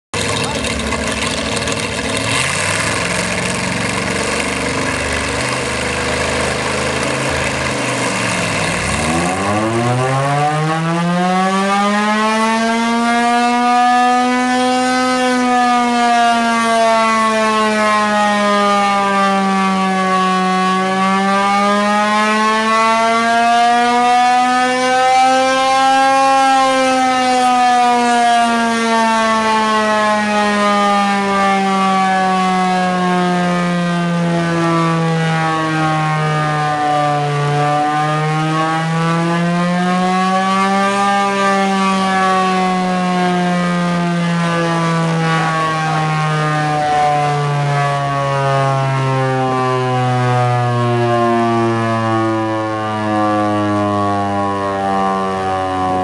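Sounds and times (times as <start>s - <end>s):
air raid siren wailing: 0.2s - 56.0s
engine running: 0.2s - 56.0s.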